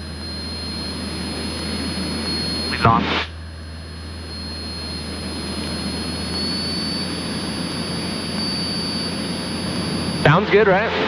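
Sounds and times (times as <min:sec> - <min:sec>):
propeller airplane engine droning: 0:00.0 - 0:11.0
thin high whine: 0:00.0 - 0:11.0.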